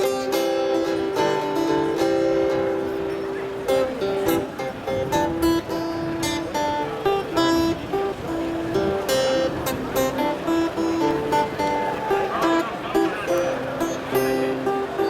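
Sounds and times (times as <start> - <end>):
amplified guitar playing: 0.0 - 15.0.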